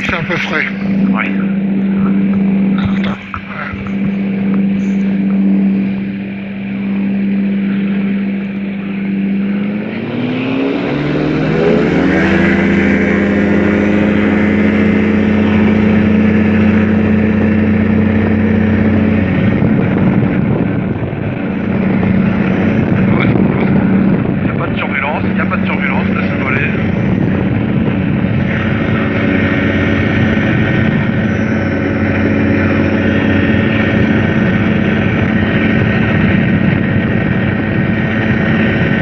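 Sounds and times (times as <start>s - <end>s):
engine and propeller running: 0.0s - 39.0s.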